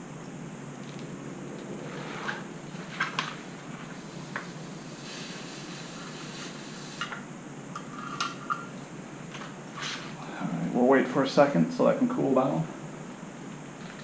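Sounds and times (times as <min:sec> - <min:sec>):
low room hum: 0:00.0 - 0:14.0
soft hiss: 0:00.0 - 0:14.0.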